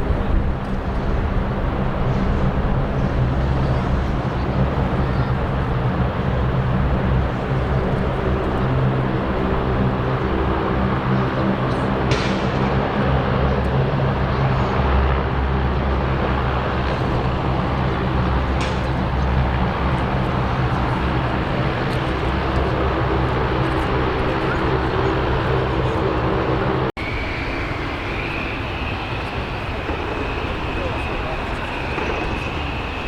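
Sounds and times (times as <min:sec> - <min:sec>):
jet engine running: 0:00.0 - 0:33.0.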